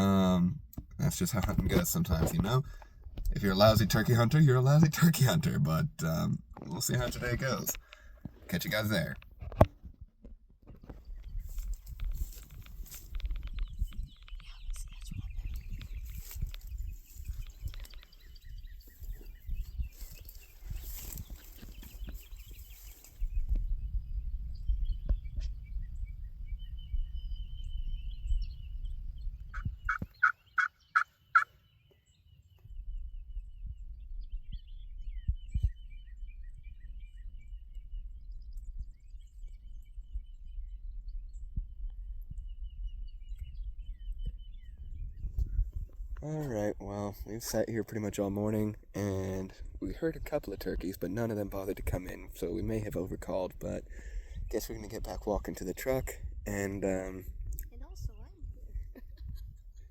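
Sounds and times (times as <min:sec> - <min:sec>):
wind rumbling on microphone: 0:00.0 - 0:31.0, 0:32.1 - 0:59.9
small birds chirping: 0:00.7 - 0:09.4, 0:10.6 - 0:59.9.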